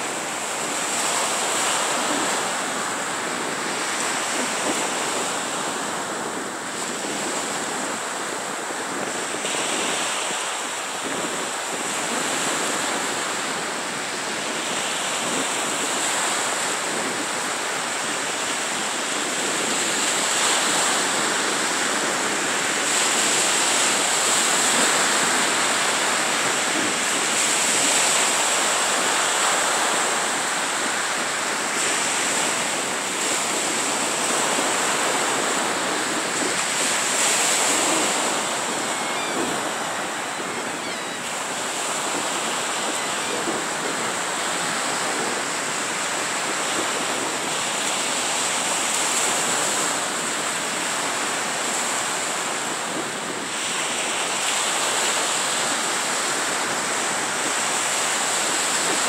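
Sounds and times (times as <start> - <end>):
surf washing up a beach: 0.0 - 59.0.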